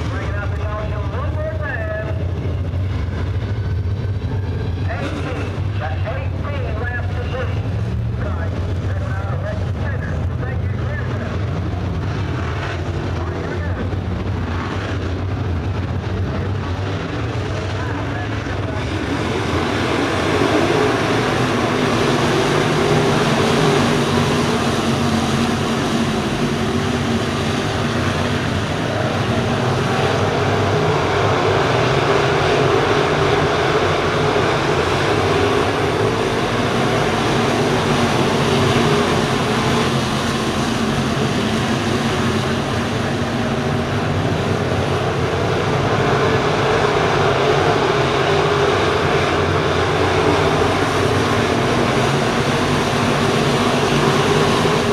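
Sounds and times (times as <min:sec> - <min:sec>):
race car engines droning: 0:00.0 - 0:54.9.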